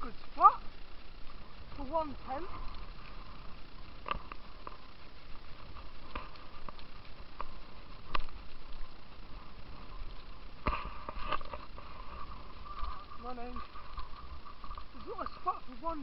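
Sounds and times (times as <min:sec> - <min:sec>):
footsteps on grassy path: 0:00.0 - 0:16.0
wind rumble on microphone: 0:00.0 - 0:16.0.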